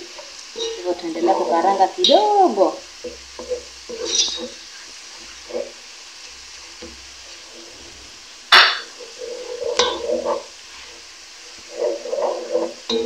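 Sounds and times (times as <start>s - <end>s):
wooden spoon scraping pot: 0.0s - 2.0s, 2.6s - 13.0s
onions sizzling in hot oil: 0.0s - 13.0s.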